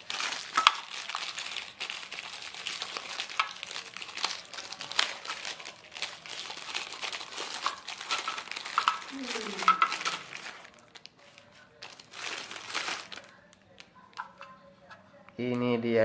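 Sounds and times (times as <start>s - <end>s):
plastic packaging crinkling: 0.0s - 14.5s.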